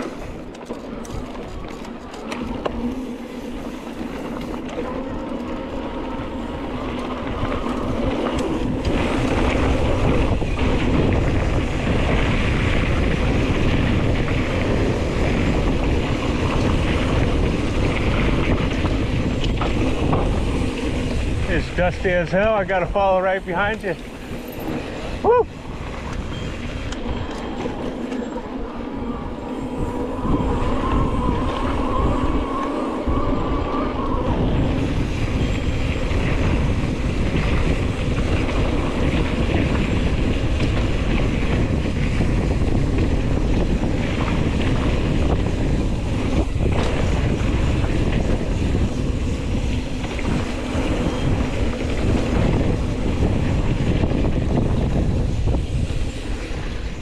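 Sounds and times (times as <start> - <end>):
bike rattling: 0.0 - 57.0
tyres rolling on dirt: 0.0 - 57.0
wind buffeting microphone: 0.0 - 57.0.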